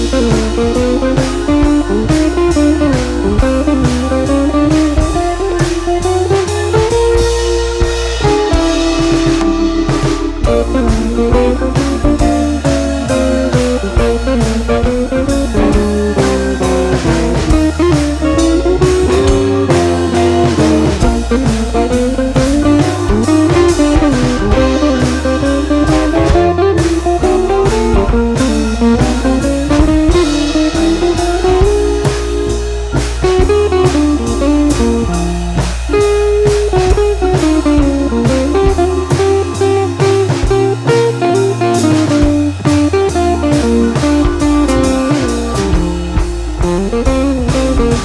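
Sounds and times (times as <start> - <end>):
blues guitar: 0.0 - 48.0
steady drum beat: 0.0 - 48.0.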